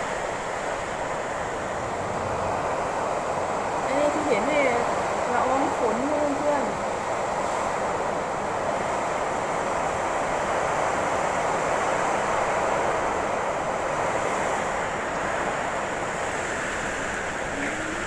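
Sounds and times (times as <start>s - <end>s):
heavy rain: 0.0s - 18.0s
strong wind: 0.0s - 18.0s.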